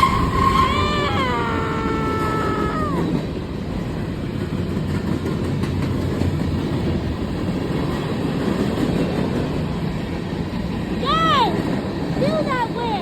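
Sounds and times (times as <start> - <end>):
rail cars rumbling and rattling: 0.0 - 13.0.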